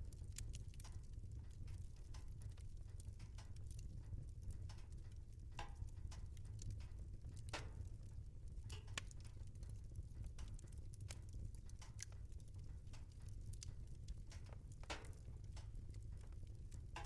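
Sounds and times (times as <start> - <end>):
wood fire crackling and snapping: 0.0 - 17.0.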